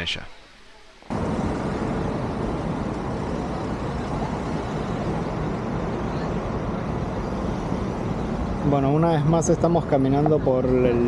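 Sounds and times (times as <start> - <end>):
road traffic roar: 1.1 - 11.0.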